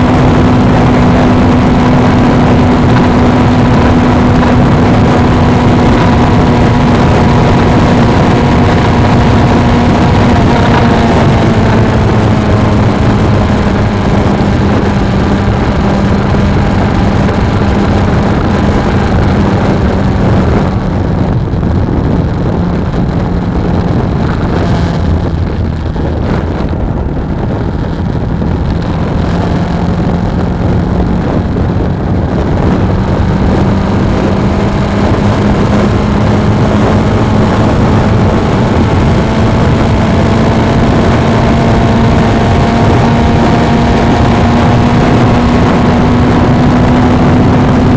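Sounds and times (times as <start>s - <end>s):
motorcycle engine running: 0.0s - 47.9s
wind noise on microphone: 0.0s - 47.9s.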